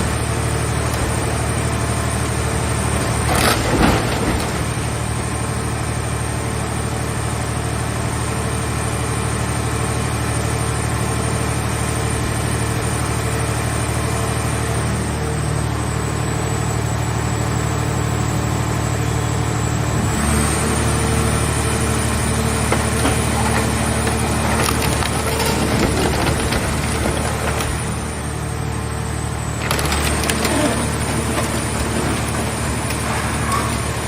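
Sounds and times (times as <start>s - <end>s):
hydraulic baler whining: 0.0s - 7.3s, 12.4s - 34.0s.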